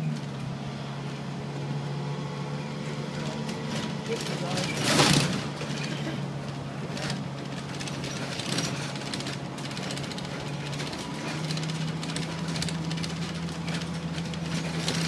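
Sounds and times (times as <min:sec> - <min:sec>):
bus engine humming: 0:00.0 - 0:15.0
road noise: 0:00.0 - 0:15.0.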